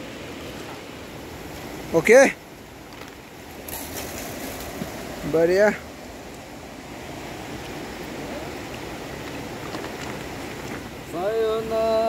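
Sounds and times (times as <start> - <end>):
fast river rushing: 0.0 - 12.0.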